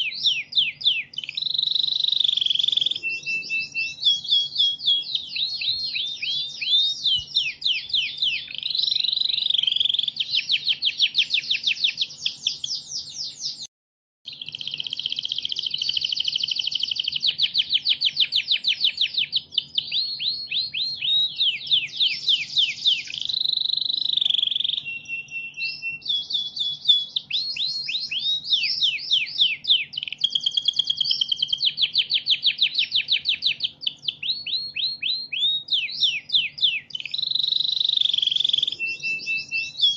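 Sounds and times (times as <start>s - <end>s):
canary singing trills: 0.0s - 13.7s, 14.3s - 39.9s.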